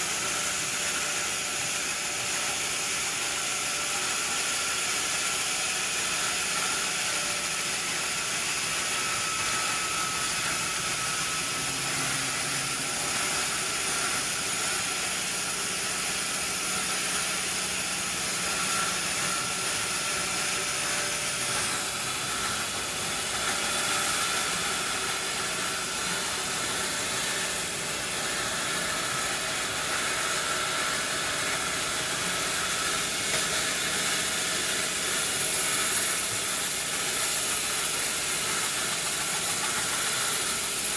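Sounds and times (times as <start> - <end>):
sawmill machinery hiss: 0.0 - 40.9.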